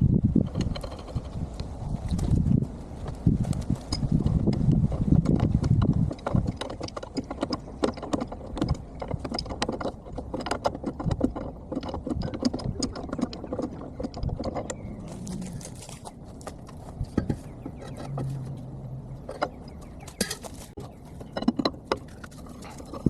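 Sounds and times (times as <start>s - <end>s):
hand tools tapping metal: 3.7s - 15.8s, 16.4s - 23.0s.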